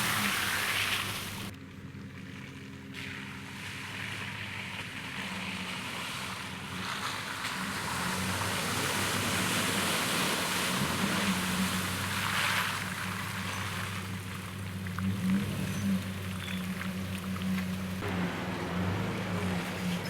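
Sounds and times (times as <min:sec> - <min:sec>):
muddy water splashing: 0:00.0 - 0:20.0
truck engine under throttle: 0:02.8 - 0:20.0.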